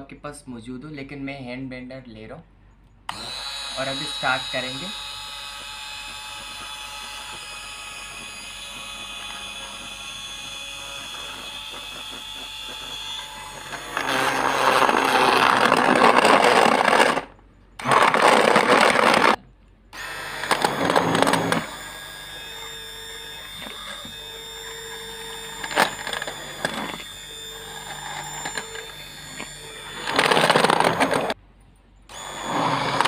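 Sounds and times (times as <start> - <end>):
blender churning liquid: 3.1 - 19.4, 20.0 - 31.4, 32.1 - 33.0
hand blender motor hum: 3.1 - 19.4, 20.0 - 31.4, 32.1 - 33.0.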